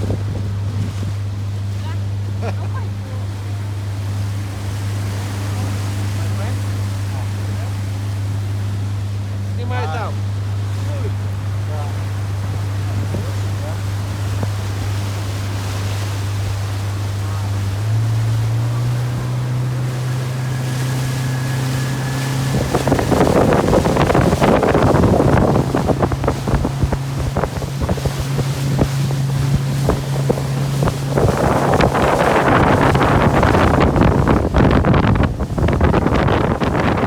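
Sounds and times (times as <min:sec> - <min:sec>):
motorboat engine: 0:00.0 - 0:37.0
rushing water: 0:00.0 - 0:37.0
wind buffeting microphone: 0:00.0 - 0:37.0.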